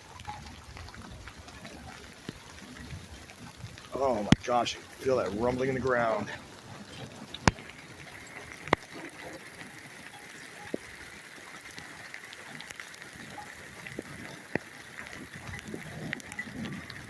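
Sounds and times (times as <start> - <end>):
raindrops tapping on phone: 0.0 - 17.0
steady rain: 0.0 - 17.0.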